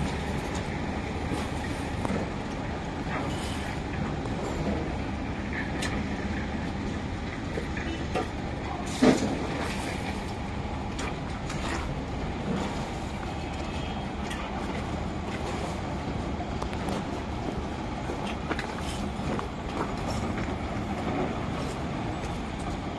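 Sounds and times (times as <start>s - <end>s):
heavy machinery rumbling: 0.0s - 22.9s.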